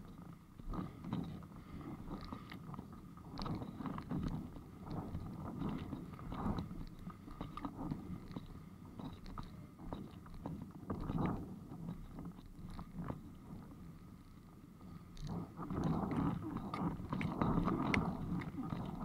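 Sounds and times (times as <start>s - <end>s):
muffled water rumble: 0.0s - 19.0s.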